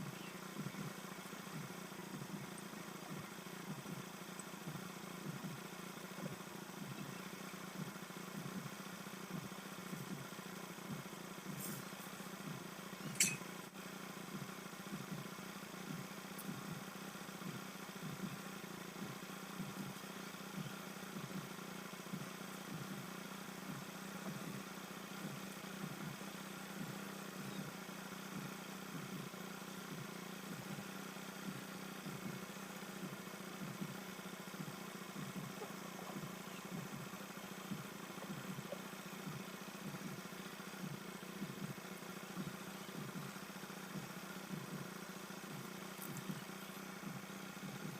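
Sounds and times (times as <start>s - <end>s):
scooter engine idling: 0.0s - 47.9s.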